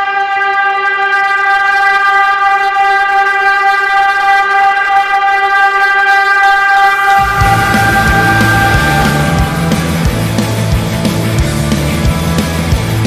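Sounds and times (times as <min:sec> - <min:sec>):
deep air horn blast: 0:00.0 - 0:12.1.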